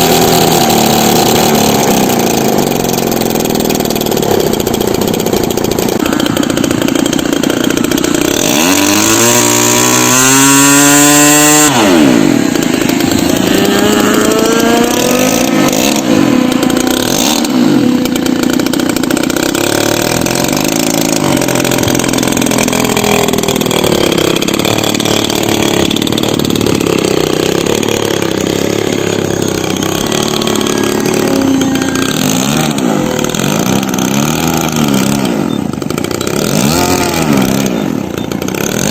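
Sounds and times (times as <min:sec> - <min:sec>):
model airplane engine revving: 0:00.0 - 0:38.9.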